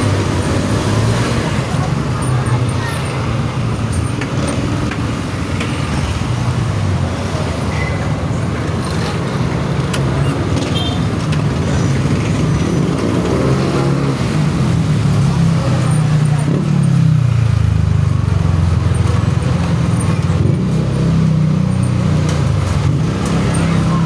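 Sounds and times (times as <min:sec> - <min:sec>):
tyre and road noise: 0:00.0 - 0:24.0.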